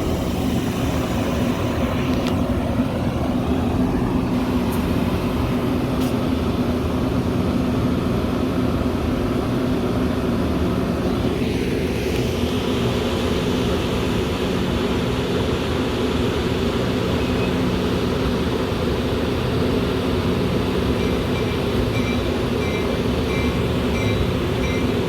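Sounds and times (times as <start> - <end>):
train droning: 0.0 - 25.0.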